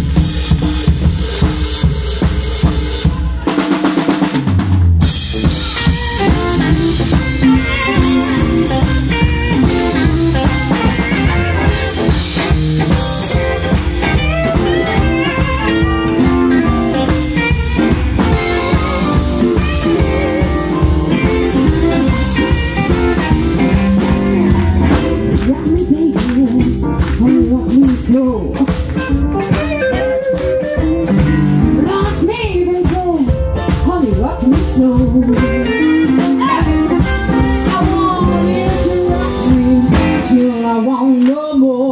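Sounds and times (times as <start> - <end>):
drum kit: 0.0 - 40.8
bass guitar: 0.0 - 41.9
electric guitars: 0.0 - 41.9
electric keyboard: 5.4 - 41.2.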